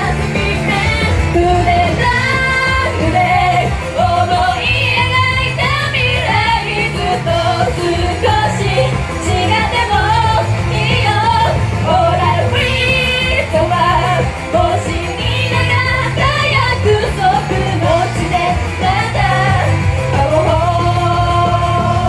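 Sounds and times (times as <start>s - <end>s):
backing track with steady beat: 0.0s - 22.0s
woman singing pop song: 0.0s - 22.0s.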